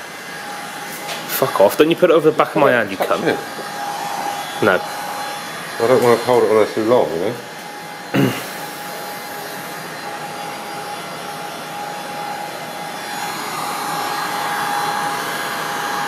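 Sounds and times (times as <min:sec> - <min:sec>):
heat gun fan whine: 0:00.0 - 0:16.0.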